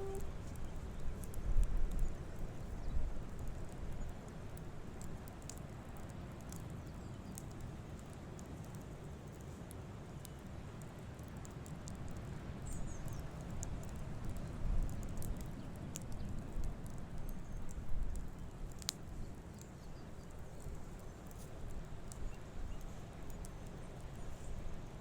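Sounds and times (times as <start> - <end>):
campfire crackling and popping: 0.0 - 25.0
low rumble of fire: 0.0 - 25.0.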